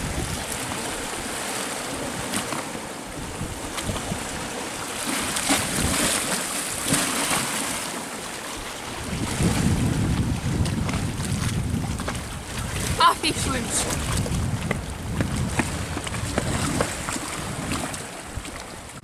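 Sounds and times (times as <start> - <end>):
sea surf washing against rocks: 0.0 - 19.0.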